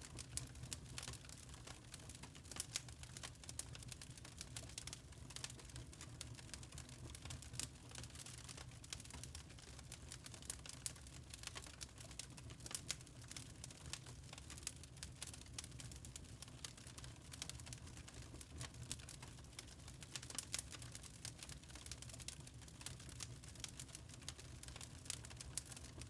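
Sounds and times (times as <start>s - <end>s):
charcoal crackling: 0.1s - 26.0s.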